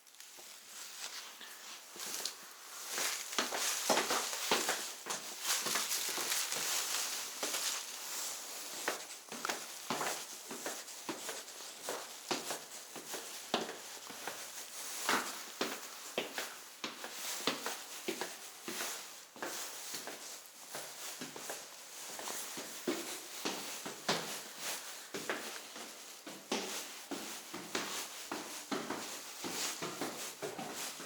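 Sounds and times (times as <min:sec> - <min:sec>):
rustling and crinkling: 0:00.0 - 0:31.0.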